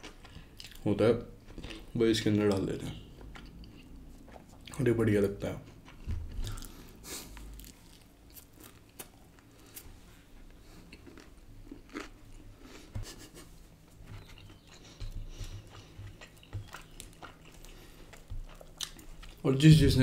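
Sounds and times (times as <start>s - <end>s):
person chewing crunchy food: 0.0s - 0.8s, 1.4s - 2.0s, 3.0s - 4.8s, 5.6s - 19.4s.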